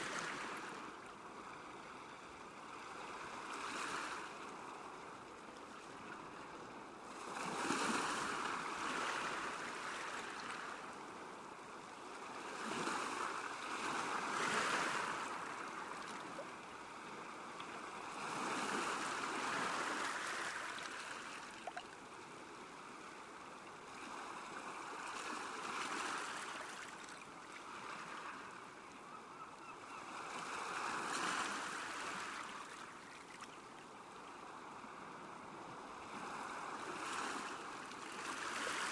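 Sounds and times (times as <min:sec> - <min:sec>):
small waves lapping on shore: 0:00.0 - 0:38.9.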